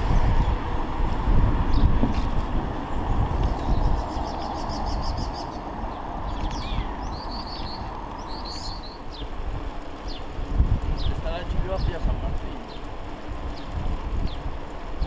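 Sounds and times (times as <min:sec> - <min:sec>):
bike tyres rolling: 0:00.0 - 0:15.0
wind rumble: 0:00.0 - 0:15.0
small birds chirping: 0:01.6 - 0:15.0.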